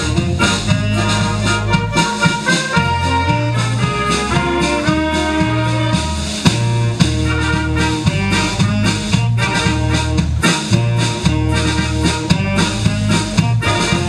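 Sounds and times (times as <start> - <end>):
wind band playing: 0.0 - 14.0.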